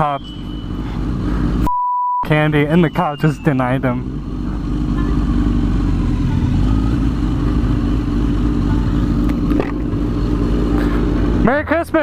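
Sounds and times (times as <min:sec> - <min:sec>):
motorcycle engine running steadily: 0:00.0 - 0:01.7, 0:02.3 - 0:12.0.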